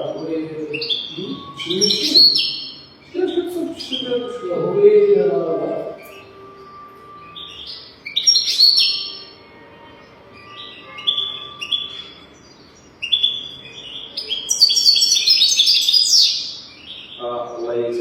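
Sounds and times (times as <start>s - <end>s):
goldfinch twittering song: 0.0s - 4.8s, 5.7s - 18.0s.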